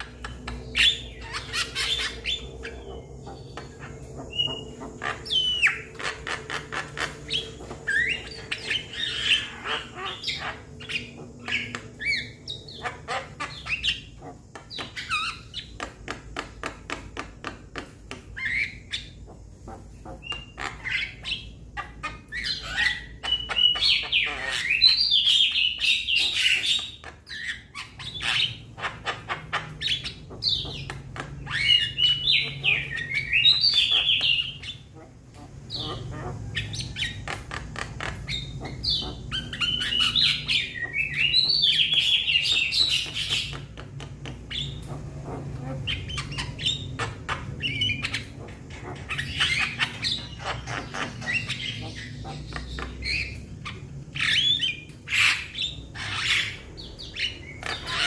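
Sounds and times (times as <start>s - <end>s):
young birds calling: 0.0s - 58.0s.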